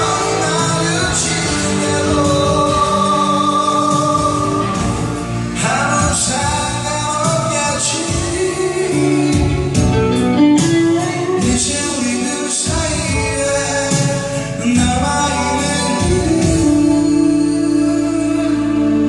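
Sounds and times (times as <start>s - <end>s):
backing music with drums: 0.0s - 19.0s
person singing: 0.0s - 19.0s.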